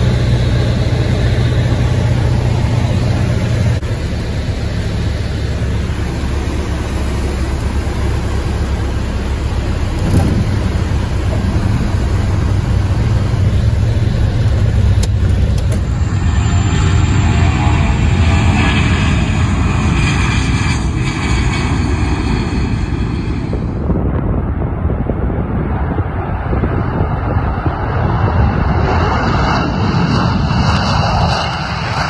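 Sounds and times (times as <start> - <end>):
airflow noise: 0.0 - 32.0
propeller airplane engine running: 0.0 - 32.0.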